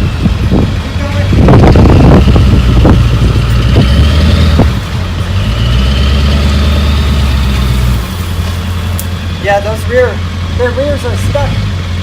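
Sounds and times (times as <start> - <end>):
heavy engine running at low revs: 0.0 - 12.0.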